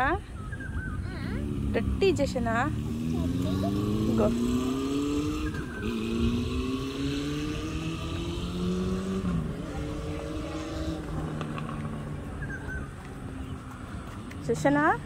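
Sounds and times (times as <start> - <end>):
road noise rumble: 0.0 - 15.0
engine accelerating: 1.1 - 15.0.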